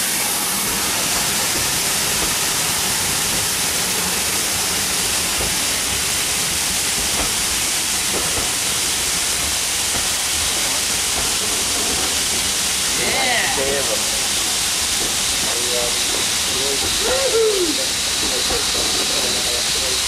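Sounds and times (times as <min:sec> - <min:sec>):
loud steam hiss: 0:00.0 - 0:20.0.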